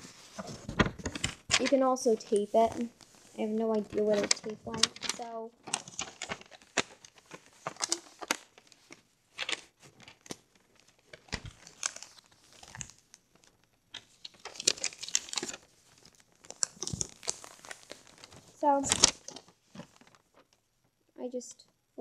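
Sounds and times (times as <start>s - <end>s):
paper crinkling and rustling: 0.0s - 20.6s.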